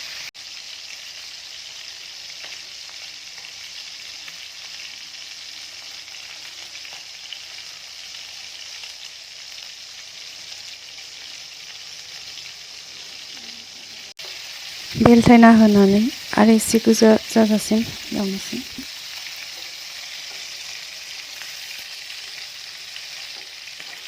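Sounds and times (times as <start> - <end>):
chicken sizzling in oil: 0.0 - 24.0
small crackles of frying: 0.0 - 24.0.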